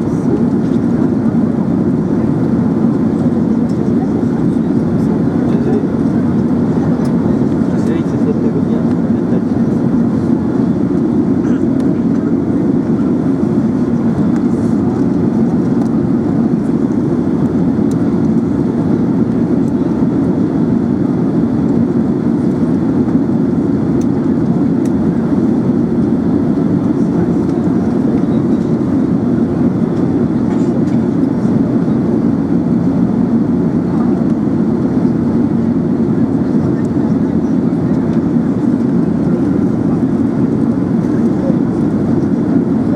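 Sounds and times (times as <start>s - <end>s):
airplane cabin engine drone: 0.0s - 42.9s.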